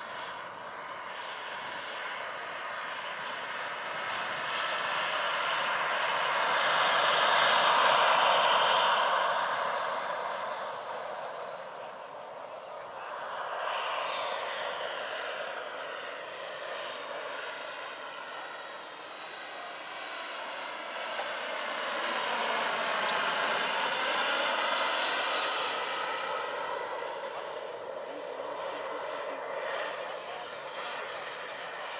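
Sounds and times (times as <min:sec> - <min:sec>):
model helicopter turbine whining: 0:00.0 - 0:31.9.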